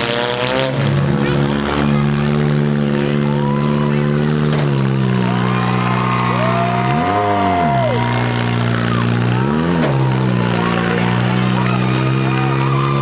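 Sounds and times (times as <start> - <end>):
car engines running: 0.0 - 13.0
engine revving: 0.0 - 13.0.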